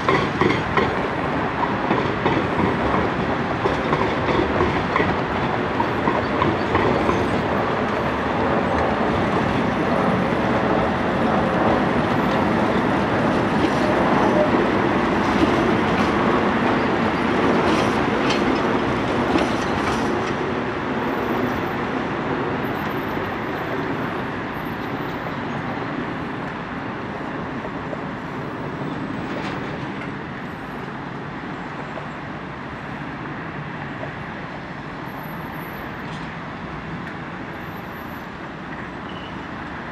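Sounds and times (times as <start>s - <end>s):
tram wheels clattering on rails: 0.0s - 39.9s.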